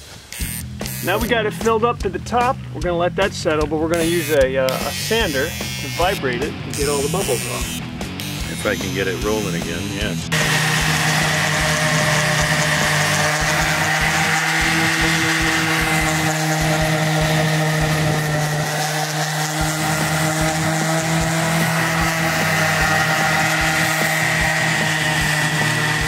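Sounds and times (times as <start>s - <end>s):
orbital sander vibrating plastic mold: 0.3s - 1.4s, 3.6s - 26.0s.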